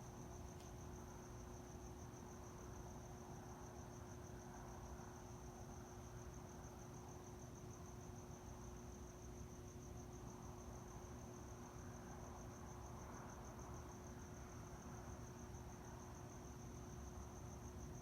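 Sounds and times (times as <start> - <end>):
faint cricket chirping: 0.0 - 18.0.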